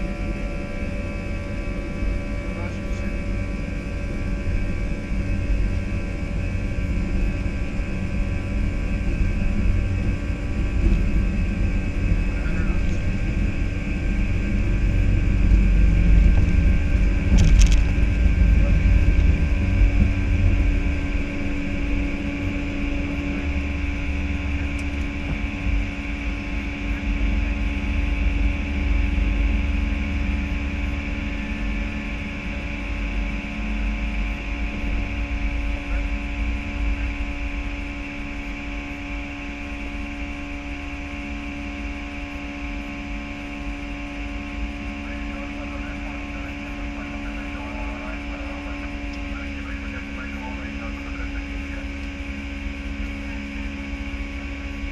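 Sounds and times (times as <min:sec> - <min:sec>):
aircraft cockpit low rumble: 0:00.0 - 0:54.9
steady hum with constant tones: 0:00.0 - 0:54.9.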